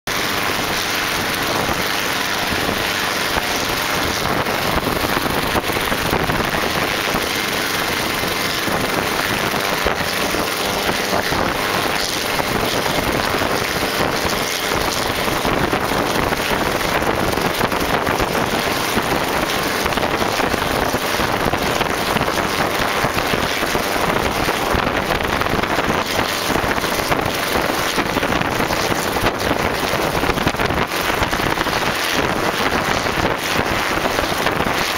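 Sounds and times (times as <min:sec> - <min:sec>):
helicopter running: 0:00.1 - 0:34.9.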